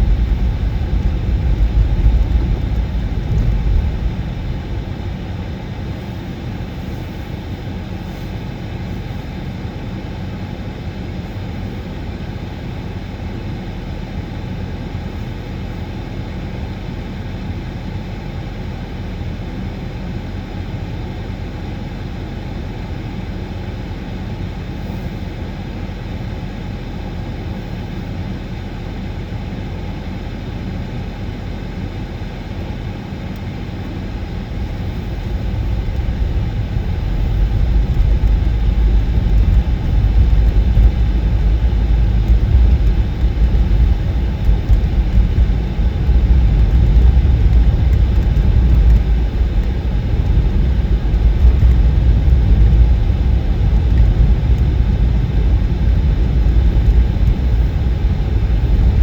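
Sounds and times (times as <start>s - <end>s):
vehicle engine rumbling: 0.0s - 19.6s, 20.3s - 59.0s.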